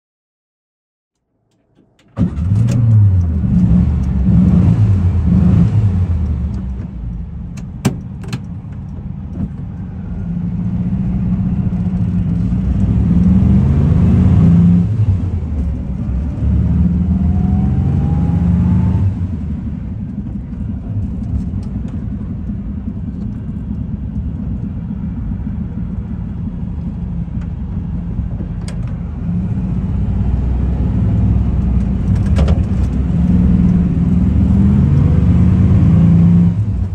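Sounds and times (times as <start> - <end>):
air-cooled van engine driving: 2.0 - 36.9.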